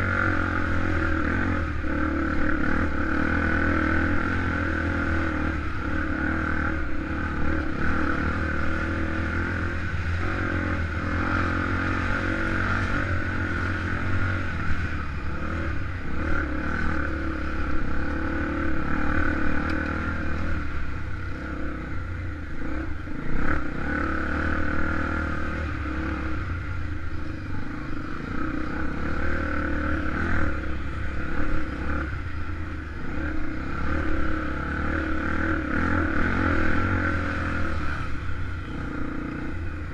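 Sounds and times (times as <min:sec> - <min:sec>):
motorcycle engine surging: 0:00.0 - 0:39.9.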